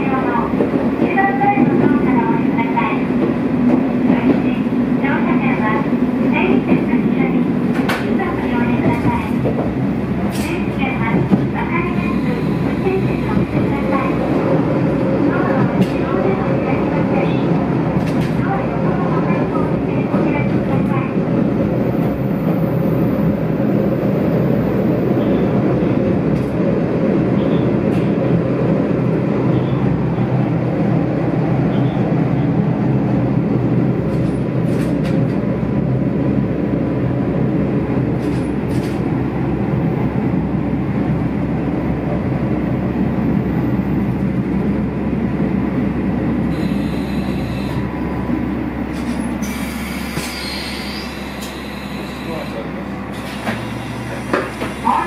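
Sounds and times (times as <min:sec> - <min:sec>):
railcar engine hum: 0:00.0 - 0:55.0.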